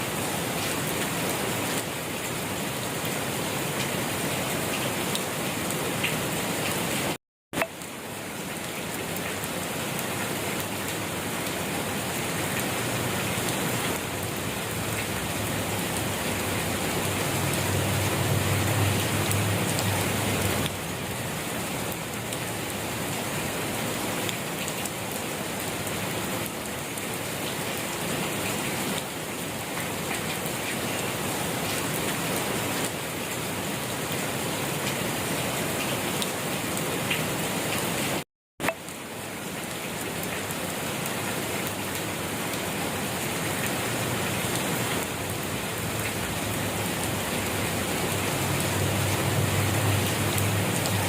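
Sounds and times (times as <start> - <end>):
gentle rain falling: 0.0 - 51.0.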